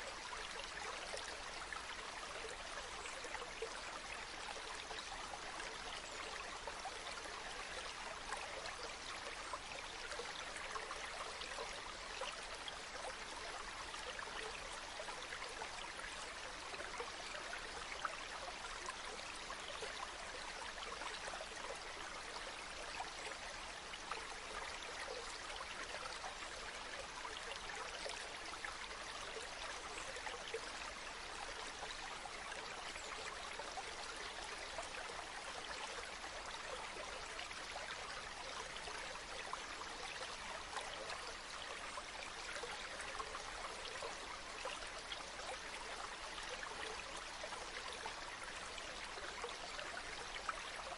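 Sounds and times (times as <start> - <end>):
stream water flowing: 0.0 - 50.9.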